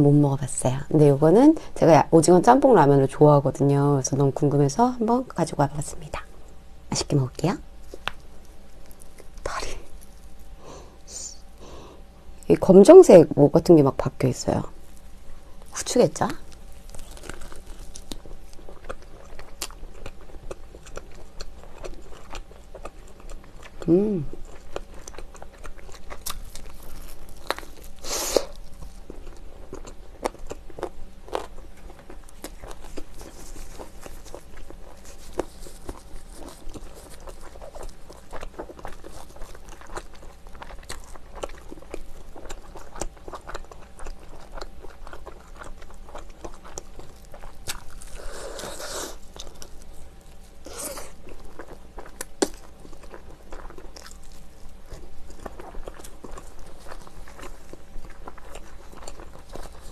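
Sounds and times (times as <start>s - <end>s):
crunching fried chicken: 7.4s - 10.6s, 14.6s - 59.9s
wet chewing: 7.8s - 10.6s, 14.6s - 59.9s.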